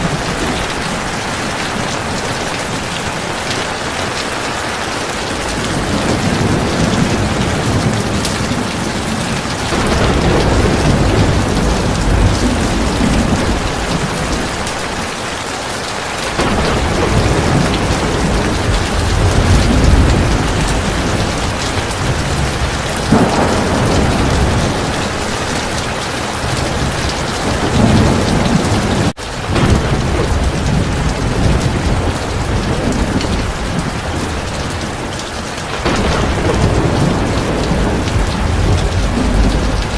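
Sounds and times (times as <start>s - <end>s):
heavy rain falling: 0.0s - 39.9s
rolling thunder rumbles: 0.0s - 39.9s.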